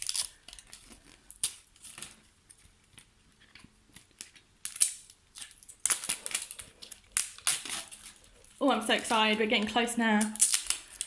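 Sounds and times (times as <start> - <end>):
wrapping being torn and crinkled: 0.0 - 11.0.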